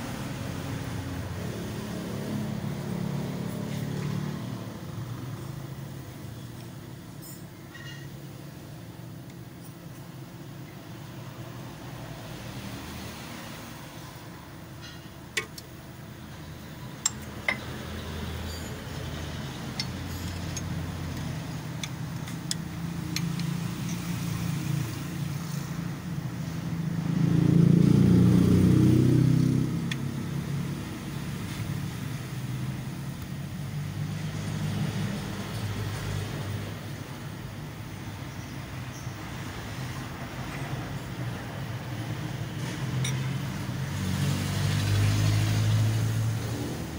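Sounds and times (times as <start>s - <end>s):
vehicle engine rumble: 0.0s - 46.9s.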